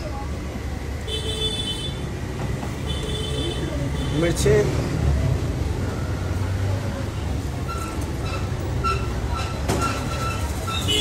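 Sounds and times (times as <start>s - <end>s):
busy street-food stall noise: 0.0s - 11.0s.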